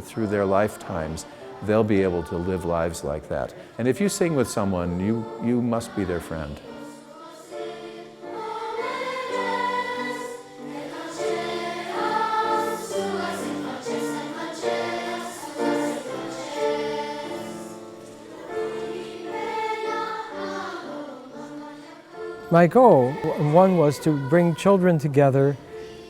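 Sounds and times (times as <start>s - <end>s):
children's choir singing: 0.0s - 26.0s.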